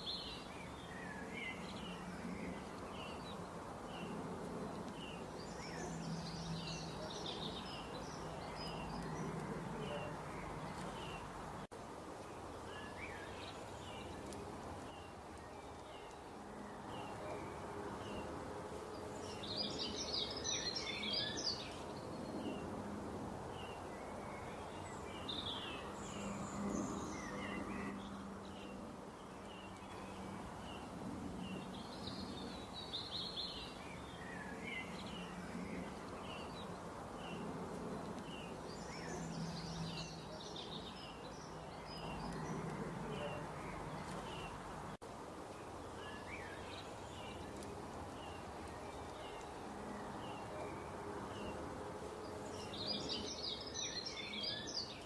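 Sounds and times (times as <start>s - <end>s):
bursts of busy birdsong: 0.0s - 55.0s.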